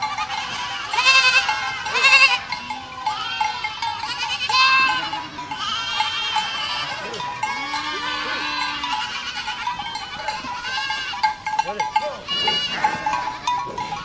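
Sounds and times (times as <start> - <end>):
goats bleating: 0.0 - 14.0.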